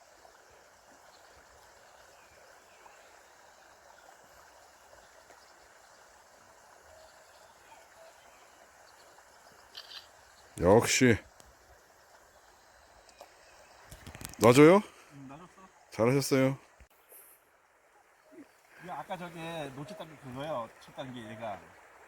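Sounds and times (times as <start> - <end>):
river water flowing over rocks: 0.0 - 22.0.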